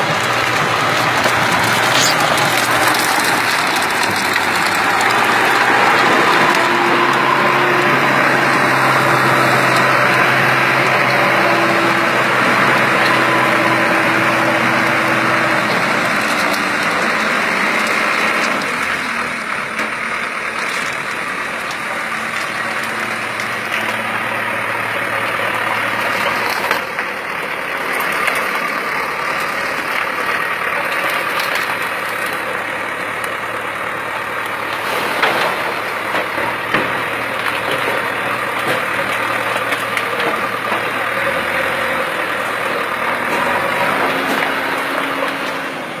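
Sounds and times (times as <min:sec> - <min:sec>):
road vehicle engines running: 0:00.0 - 0:46.0.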